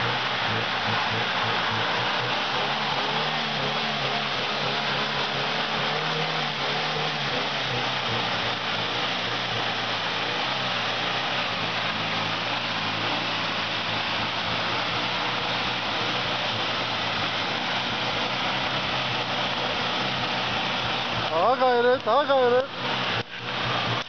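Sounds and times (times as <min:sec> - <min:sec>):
car engine running: 0:00.0 - 0:24.0
constant rushing noise: 0:00.0 - 0:24.0.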